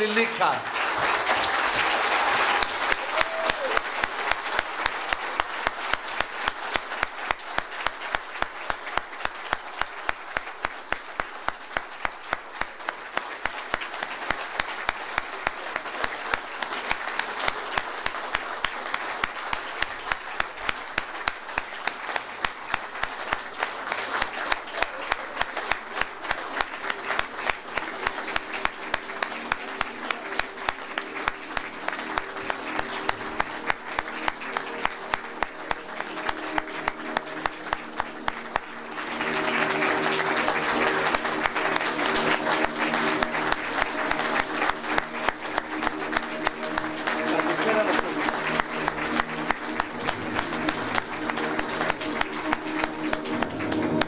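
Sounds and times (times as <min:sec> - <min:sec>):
crowd clapping in rhythm: 0:00.0 - 0:54.0.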